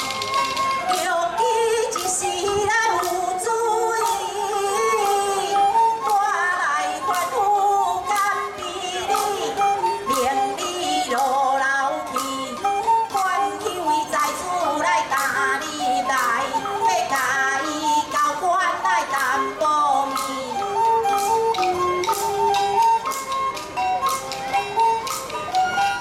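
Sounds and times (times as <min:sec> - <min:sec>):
steady percussion beat: 0:00.0 - 0:26.0
wavering opera melody: 0:00.0 - 0:26.0.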